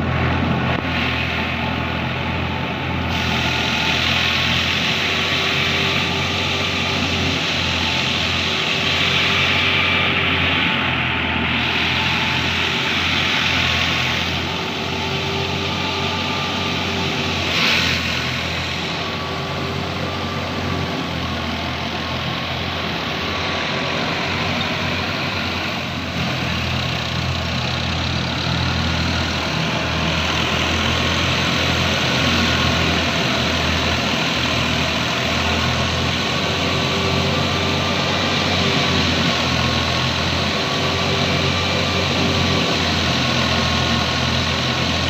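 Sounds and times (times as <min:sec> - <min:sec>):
heavy vehicle engine running: 0:00.0 - 0:45.0.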